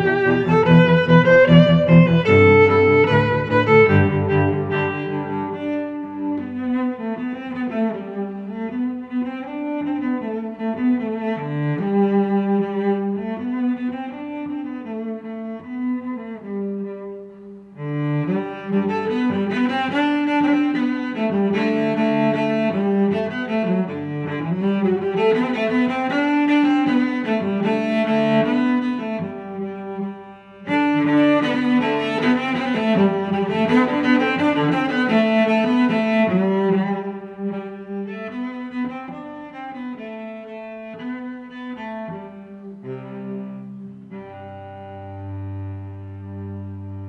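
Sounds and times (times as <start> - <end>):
bowed strings melody: 0.0 - 47.0.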